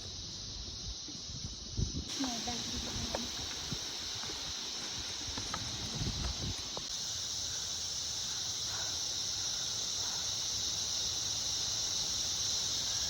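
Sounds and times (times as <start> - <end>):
high-pitched insect chorus buzzing: 0.0 - 13.0.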